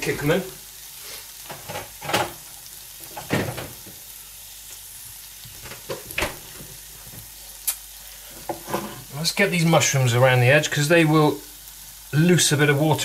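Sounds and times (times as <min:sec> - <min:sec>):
vegetables sizzling in a frying pan: 0:00.0 - 0:13.0.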